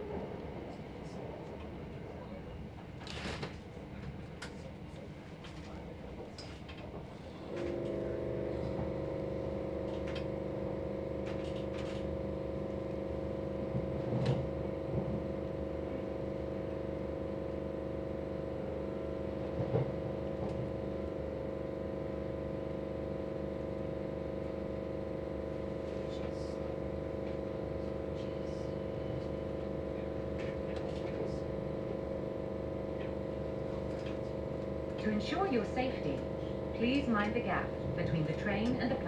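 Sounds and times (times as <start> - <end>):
multi-tone train equipment hum: 0.0 - 39.0
rumble of train wheels: 0.0 - 39.0.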